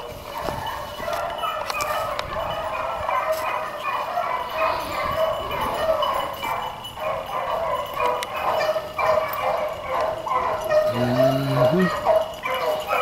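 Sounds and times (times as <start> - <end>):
hounds baying: 0.0 - 13.0.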